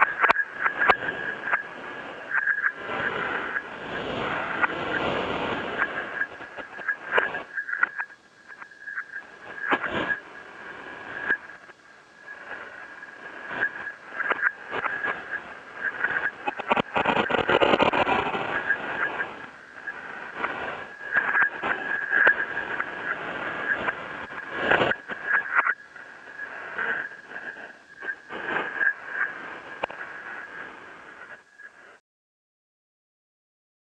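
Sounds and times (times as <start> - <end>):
radio static and crackle: 0.0 - 32.0
static pops: 0.0 - 32.0
steady high whine: 0.0 - 32.0.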